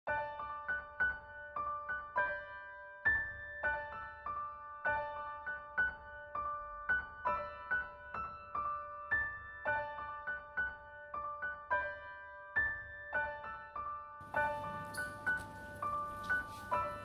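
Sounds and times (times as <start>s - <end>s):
slow piano melody: 0.1s - 17.0s.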